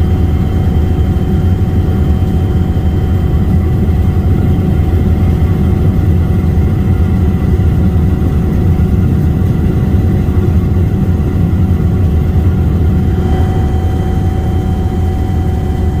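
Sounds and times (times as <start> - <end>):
helicopter rotor drone: 0.0 - 16.0
high engine whine: 0.0 - 16.0.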